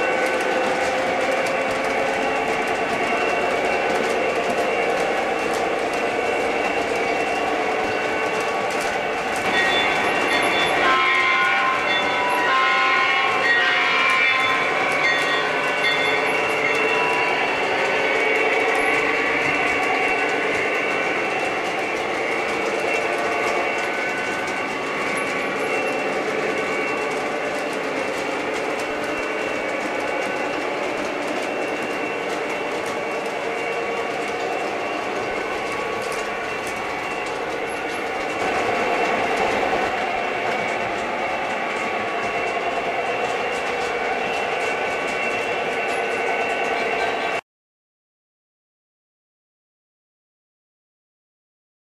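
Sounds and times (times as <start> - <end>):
model train wheels clicking: 0.0 - 12.0, 14.9 - 47.4.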